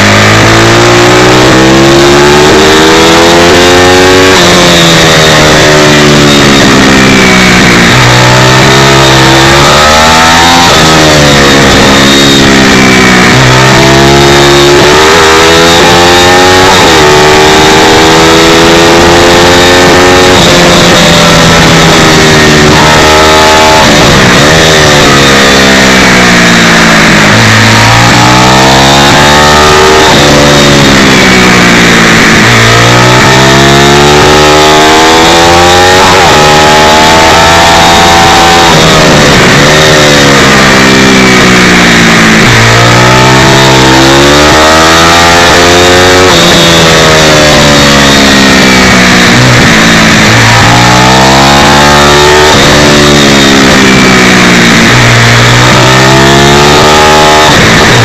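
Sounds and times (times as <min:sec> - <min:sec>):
small motorbike engine revving: 0:00.0 - 0:58.0.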